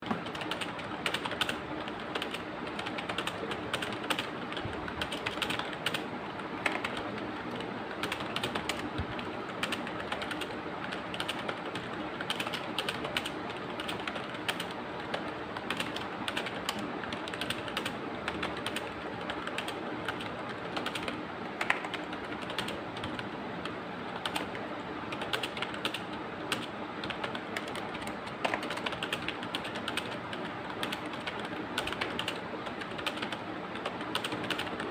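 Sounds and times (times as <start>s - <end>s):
fast typing on keyboard: 0.0s - 34.9s.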